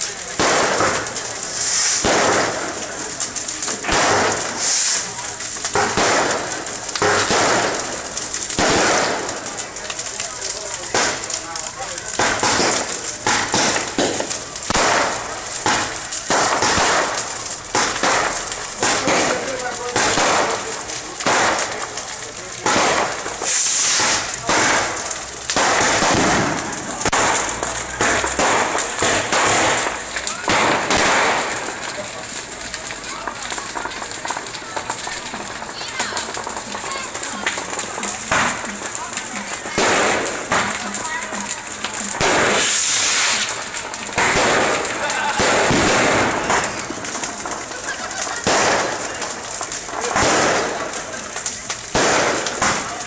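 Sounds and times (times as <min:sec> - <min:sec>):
fireworks banging and crackling: 0:00.0 - 0:53.0.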